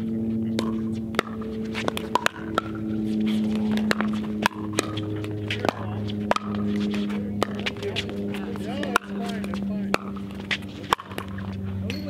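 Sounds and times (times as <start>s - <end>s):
steady low hum: 0.0s - 12.0s
ball bouncing on court: 0.2s - 12.0s
paddles hitting plastic ball: 0.4s - 11.6s.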